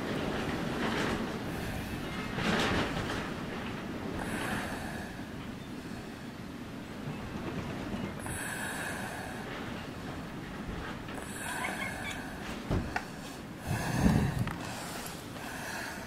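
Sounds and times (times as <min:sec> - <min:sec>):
storm wind rushing: 0:00.0 - 0:16.0.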